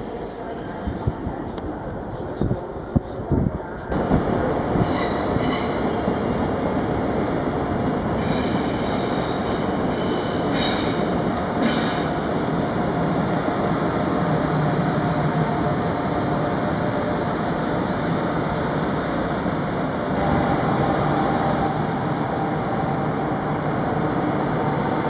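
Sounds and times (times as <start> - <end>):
train wheels rumbling on rail: 0.7 - 22.4.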